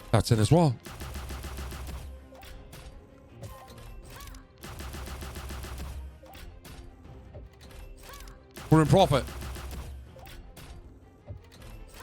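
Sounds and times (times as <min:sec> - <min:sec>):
game music: 0:00.0 - 0:12.0.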